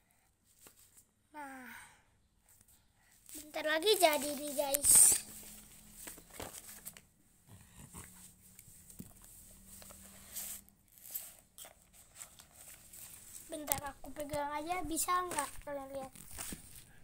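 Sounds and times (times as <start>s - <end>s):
soft handling noises: 2.4s - 7.2s, 7.8s - 17.0s.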